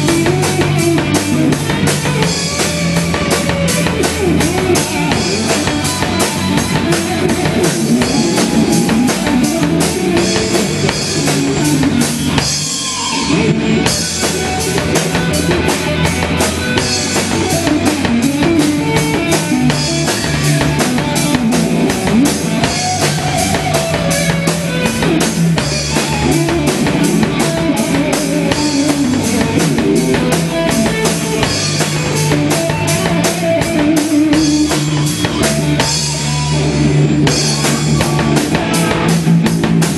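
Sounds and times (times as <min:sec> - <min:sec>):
bass guitar: 0:00.0 - 0:39.9
distorted electric guitar: 0:00.0 - 0:39.9
driving drum kit: 0:00.0 - 0:39.9.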